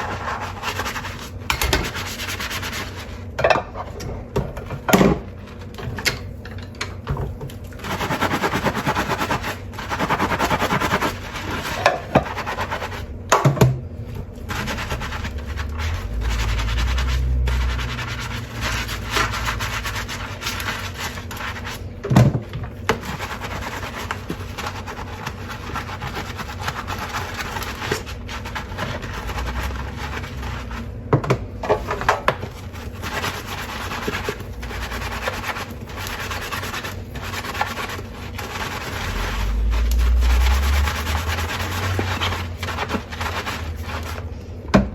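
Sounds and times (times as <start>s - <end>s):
sponge scrubbing dishes: 0.0s - 6.0s, 7.2s - 44.4s.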